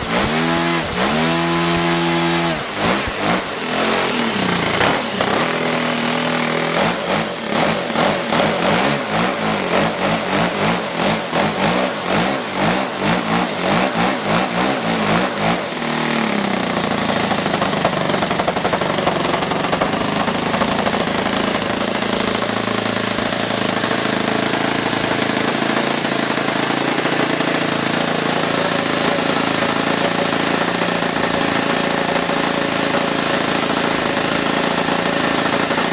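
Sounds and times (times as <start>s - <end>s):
model aircraft engine running: 0.0s - 35.9s.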